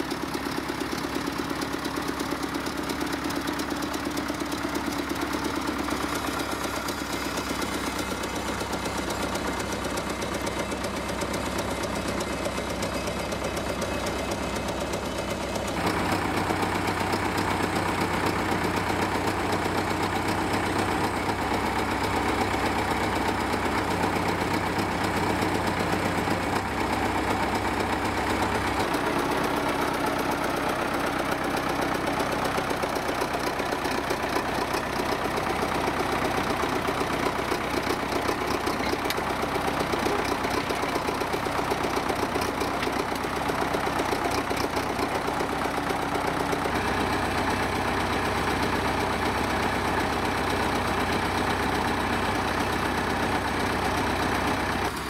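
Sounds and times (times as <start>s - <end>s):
bulldozer engine running: 0.0s - 55.0s.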